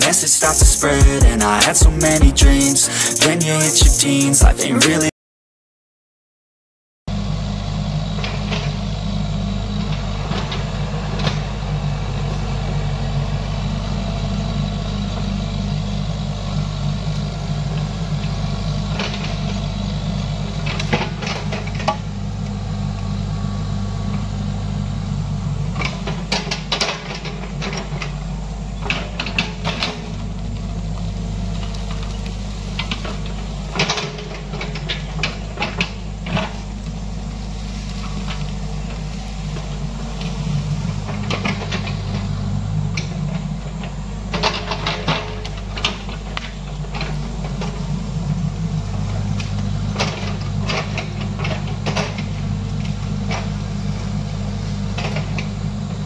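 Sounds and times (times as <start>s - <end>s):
excavator diesel engine running: 0.0s - 5.1s, 7.1s - 56.0s.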